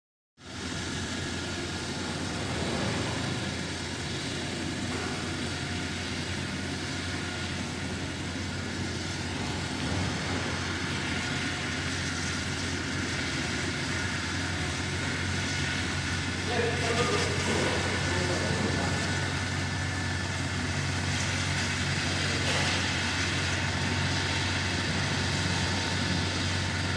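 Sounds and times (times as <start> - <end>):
helicopter turbine and rotor: 0.4 - 26.9.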